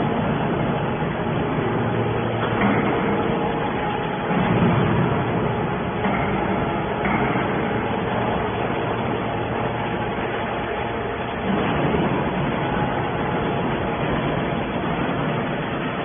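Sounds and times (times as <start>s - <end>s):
hydraulic baler running: 0.0s - 16.0s.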